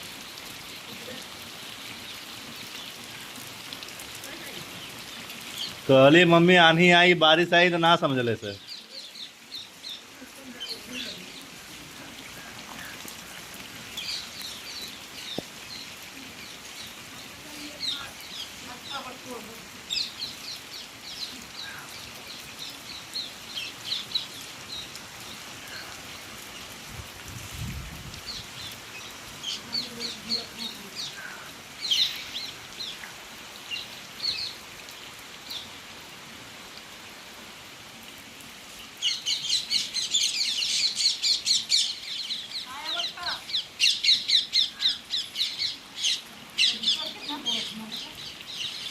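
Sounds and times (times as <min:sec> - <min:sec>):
steady rain falling: 0:00.0 - 0:48.9
birds chirping: 0:00.2 - 0:26.9, 0:28.2 - 0:36.0, 0:38.7 - 0:48.9.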